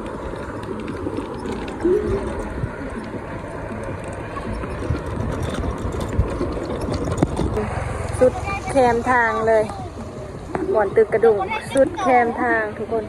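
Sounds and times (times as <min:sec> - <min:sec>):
faint voices: 0:00.0 - 0:13.0
vehicle engines: 0:00.0 - 0:13.0.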